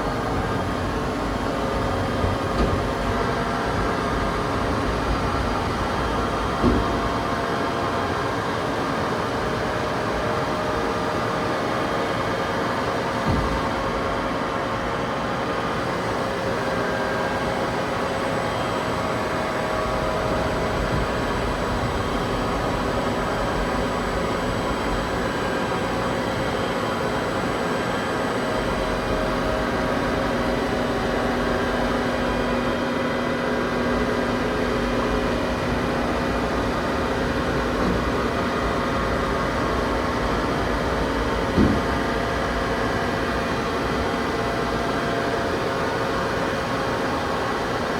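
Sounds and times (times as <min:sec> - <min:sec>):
industrial machinery humming: 0:00.0 - 0:47.9.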